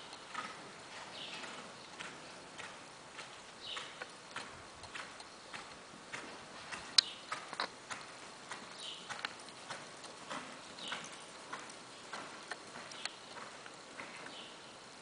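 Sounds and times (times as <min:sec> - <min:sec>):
horse hoofbeats on soft dirt: 0:00.0 - 0:15.0.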